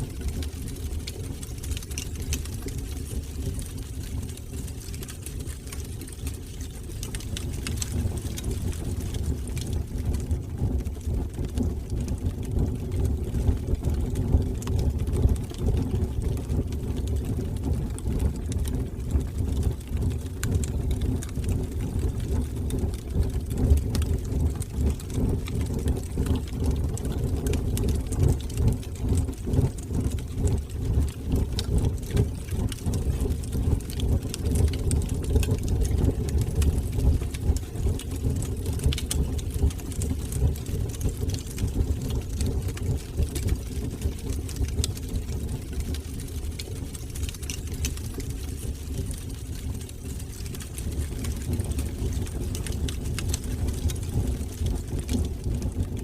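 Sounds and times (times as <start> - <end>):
fire crackling and popping: 0.0 - 56.0
fire roaring: 5.8 - 56.0.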